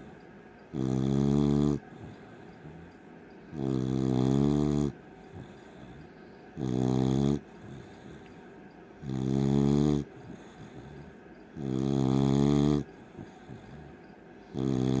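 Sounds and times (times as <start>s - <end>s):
dog snoring: 0.0s - 15.0s.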